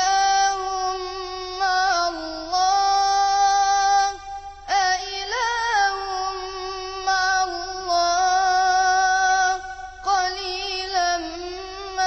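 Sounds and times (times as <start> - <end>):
child chanting melodic recitation: 0.0 - 12.0.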